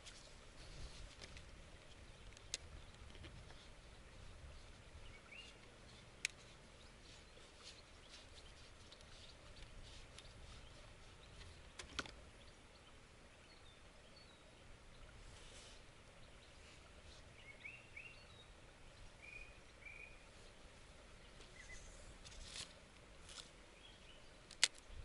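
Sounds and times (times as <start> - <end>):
faint birdsong chirping: 0.0 - 25.0.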